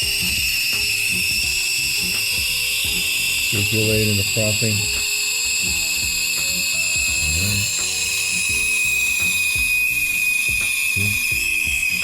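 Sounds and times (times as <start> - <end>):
espresso machines rattling and buzzing: 0.0 - 12.0
steam hissing into milk: 0.0 - 12.0.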